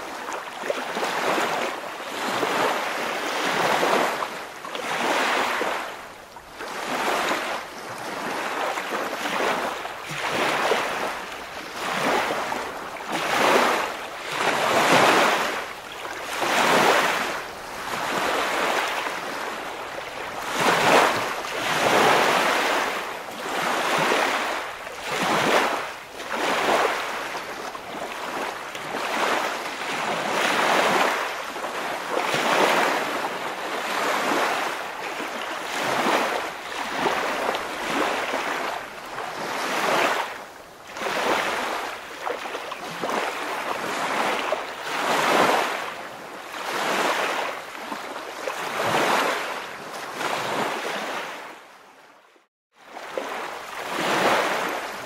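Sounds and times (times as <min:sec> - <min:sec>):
waves washing in: 0:00.0 - 0:51.7, 0:52.9 - 0:55.0.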